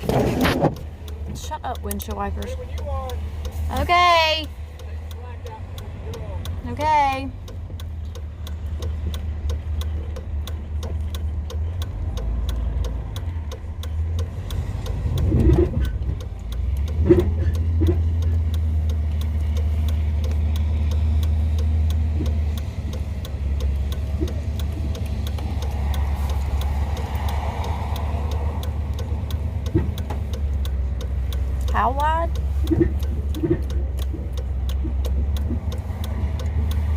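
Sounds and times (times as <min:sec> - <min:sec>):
fast even ticking: 0:00.0 - 0:36.9
truck engine running: 0:00.0 - 0:36.9.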